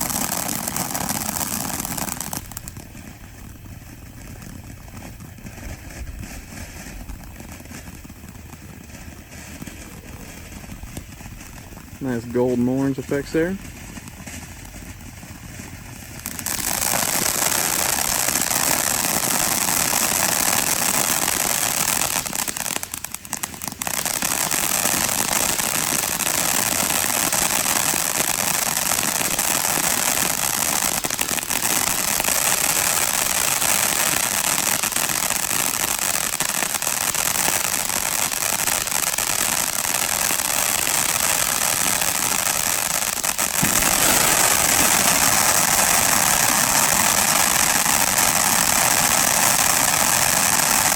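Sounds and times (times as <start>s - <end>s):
fountain firework hissing and crackling: 0.0s - 50.9s.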